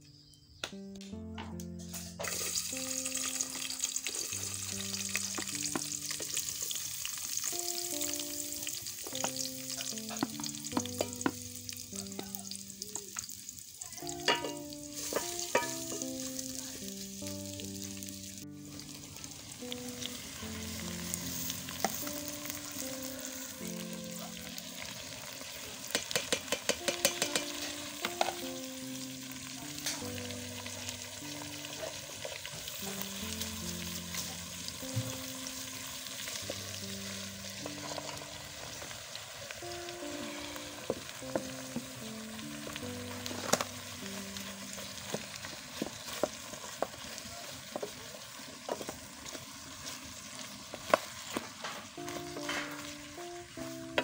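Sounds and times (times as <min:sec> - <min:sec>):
soft background music: 0:00.0 - 0:54.0
vegetables sizzling in a saucepan: 0:01.8 - 0:54.0.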